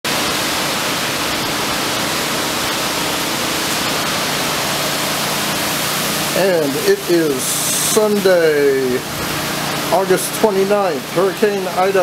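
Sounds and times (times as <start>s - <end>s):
strong wind and heavy rain: 0.1s - 12.0s.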